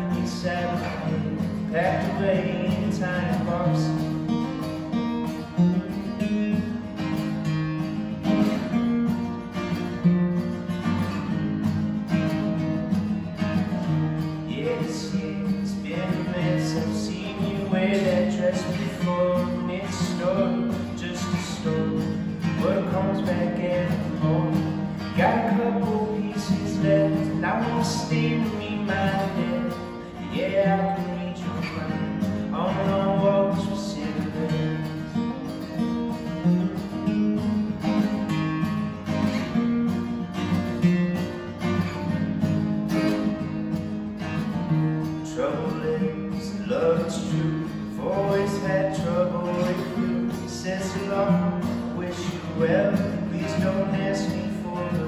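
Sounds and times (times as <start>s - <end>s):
acoustic guitar strumming: 0.0s - 55.0s
man singing country song: 0.0s - 55.0s.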